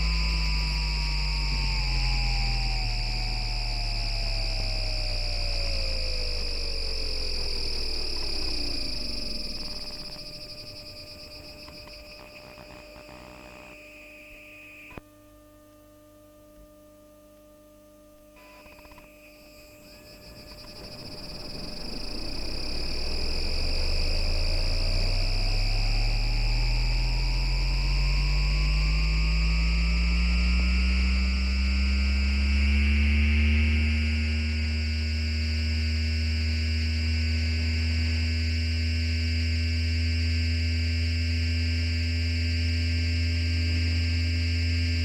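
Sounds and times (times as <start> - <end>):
inverter high tones: 0.0 - 15.0, 18.4 - 45.0
tram motor whine: 0.0 - 15.0, 18.8 - 45.0.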